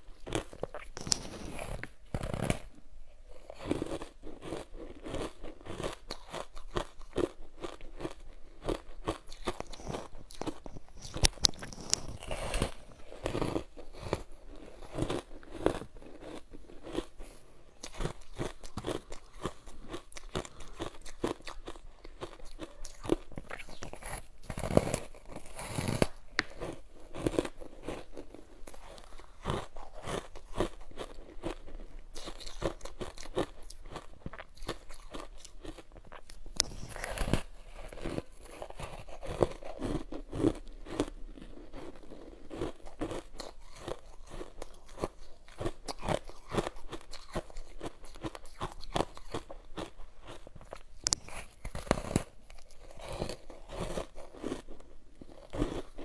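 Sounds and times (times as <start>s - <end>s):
chewing crunchy ice: 0.0s - 56.0s.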